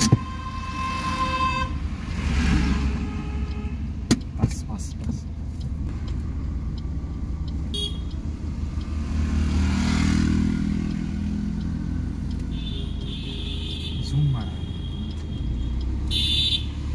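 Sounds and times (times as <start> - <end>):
car engine rumbling inside cabin: 0.0 - 9.7, 10.4 - 16.9
passing vehicle engine and tyres: 0.0 - 16.9.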